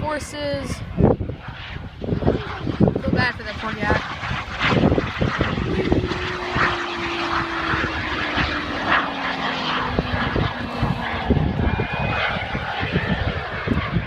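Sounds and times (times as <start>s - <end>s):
propeller aircraft flying past: 0.0s - 14.0s
wind buffeting microphone: 0.0s - 14.0s.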